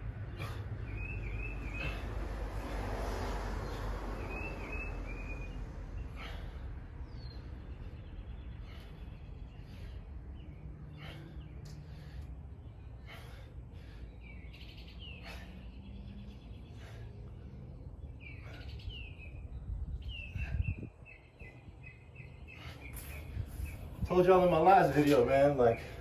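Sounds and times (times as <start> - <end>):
traffic noise: 0.0 - 26.0
bird chirps: 0.3 - 2.1, 3.6 - 6.4, 7.0 - 26.0.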